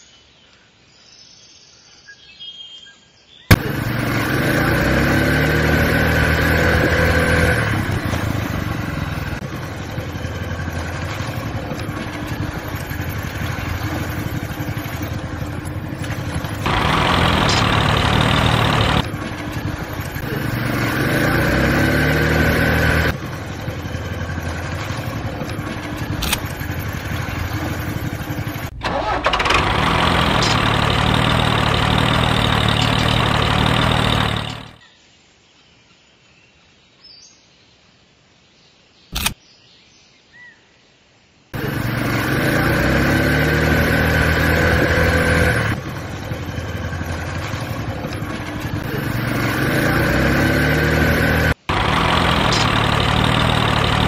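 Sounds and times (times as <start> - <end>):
vehicle engine running: 3.5 - 34.8, 41.6 - 54.0.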